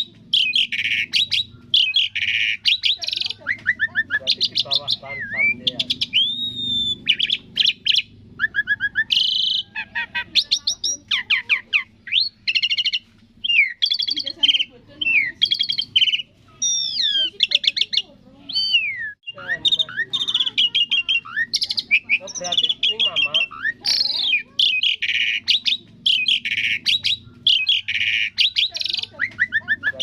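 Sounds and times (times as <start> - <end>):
starling singing: 0.0 - 30.0.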